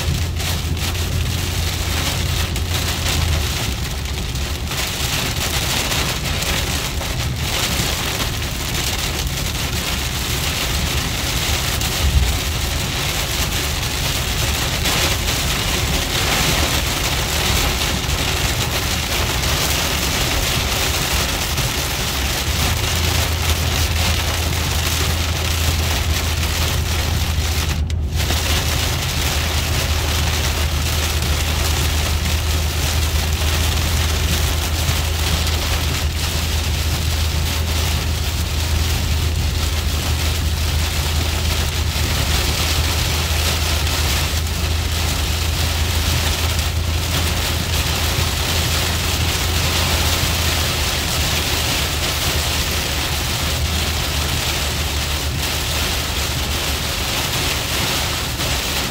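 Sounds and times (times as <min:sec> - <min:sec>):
heavy rain on car windshield: 0:00.0 - 0:58.9
road and engine rumble: 0:00.0 - 0:58.9.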